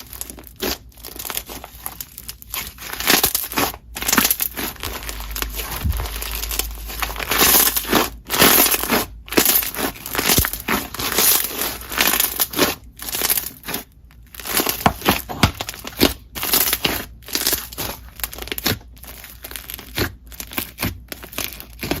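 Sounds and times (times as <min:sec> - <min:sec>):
slime crackling and squishing: 0:00.0 - 0:22.0.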